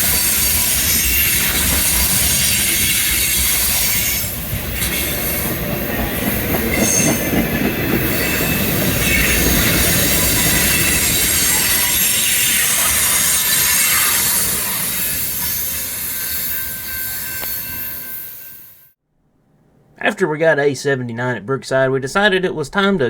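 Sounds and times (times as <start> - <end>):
freight train rumbling past: 0.0 - 18.8
wheels squealing on rail: 0.0 - 19.0.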